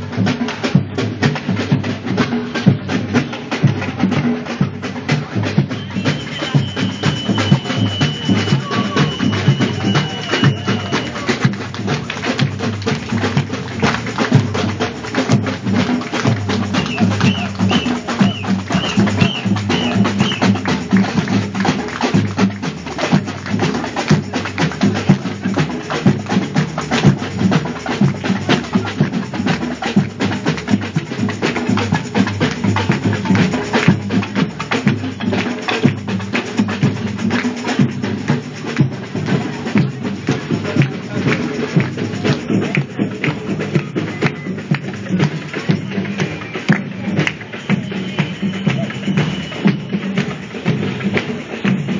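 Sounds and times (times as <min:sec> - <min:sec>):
group drumming fast rhythm: 0:00.0 - 0:51.9.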